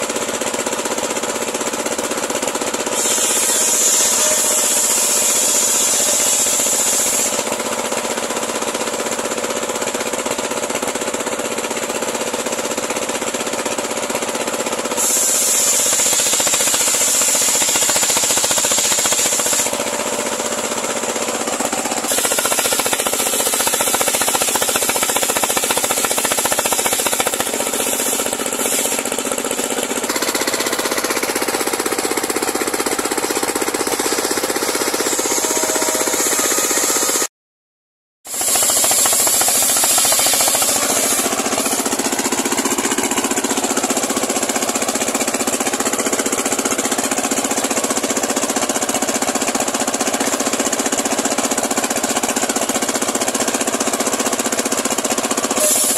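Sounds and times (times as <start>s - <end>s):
saw blade cutting through log: 0.0s - 37.3s, 38.3s - 55.9s
sawmill engine rattling drone: 0.0s - 37.3s, 38.3s - 55.9s.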